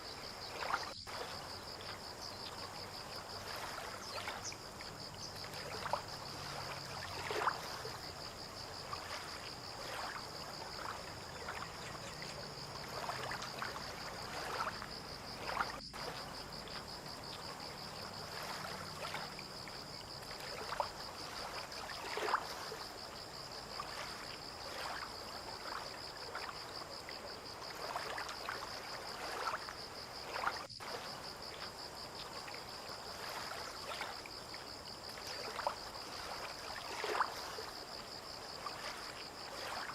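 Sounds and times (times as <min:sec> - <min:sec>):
high insect trill: 0:00.0 - 0:39.9
water lapping and splashing: 0:00.0 - 0:39.9.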